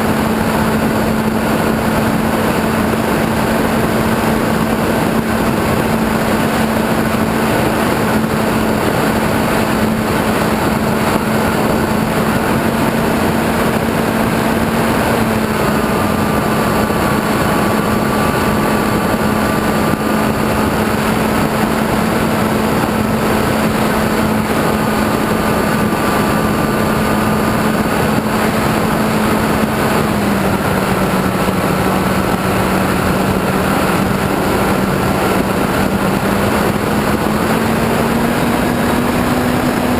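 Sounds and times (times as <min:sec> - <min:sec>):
model airplane motor humming: 0:00.0 - 0:39.9
wind rushing: 0:00.0 - 0:39.9.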